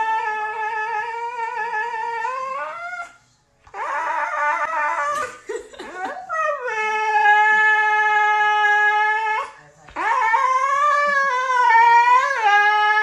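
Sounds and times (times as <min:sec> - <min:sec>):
dog howling: 0:00.0 - 0:05.3, 0:05.9 - 0:13.0.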